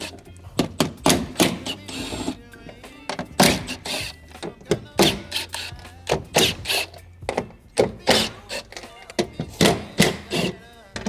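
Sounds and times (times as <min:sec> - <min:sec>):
cordless drill undoing bolts: 0:00.0 - 0:11.0.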